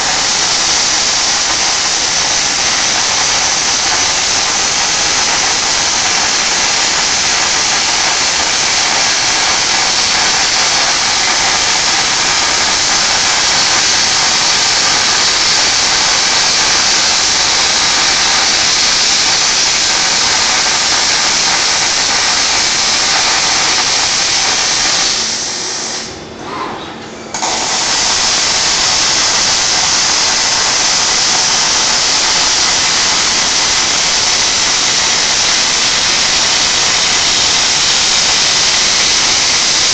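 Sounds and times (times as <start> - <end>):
welding arc hissing crackle: 0.0 - 26.2, 27.3 - 39.9.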